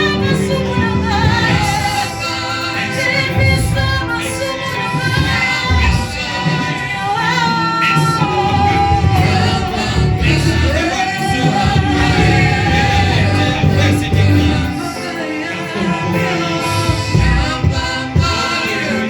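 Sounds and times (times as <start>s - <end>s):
instrumental backing with heavy bass: 0.0s - 19.0s
voices singing gospel: 0.0s - 19.0s.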